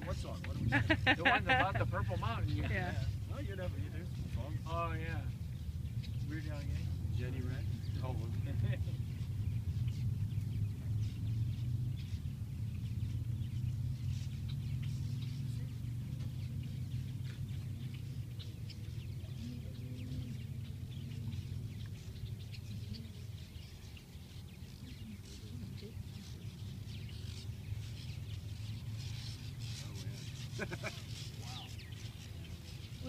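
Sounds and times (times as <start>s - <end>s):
steady low rumble: 0.0s - 31.1s
flock of birds chirping: 0.0s - 33.0s.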